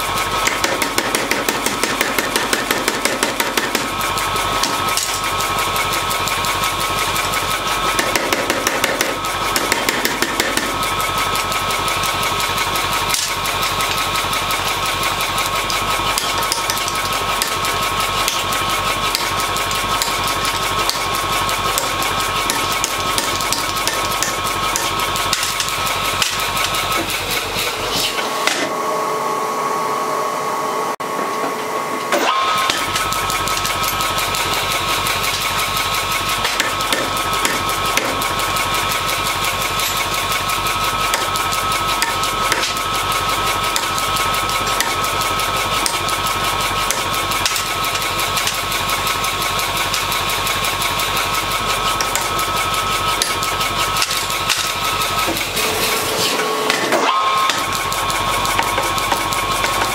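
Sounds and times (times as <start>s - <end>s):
power hammer striking steel: 0.0s - 29.1s, 31.0s - 59.9s
machine whine: 0.0s - 59.9s.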